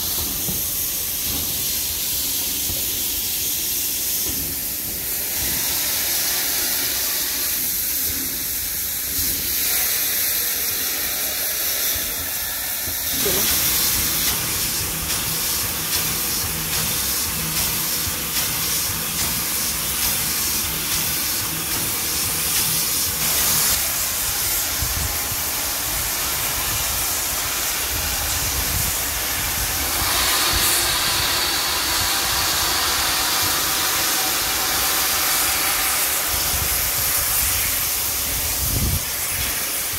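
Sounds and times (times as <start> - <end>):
hiss of escaping steam: 0.0 - 39.9.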